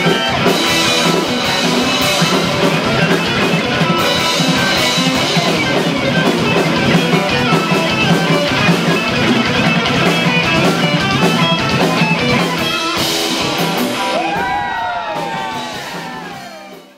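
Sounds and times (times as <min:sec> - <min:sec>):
bass and drums: 0:00.0 - 0:16.9
distorted electric guitar lead: 0:00.0 - 0:16.9.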